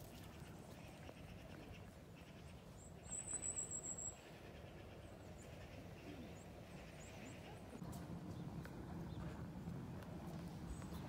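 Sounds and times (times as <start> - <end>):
faint outdoor rustle: 0.0 - 11.0.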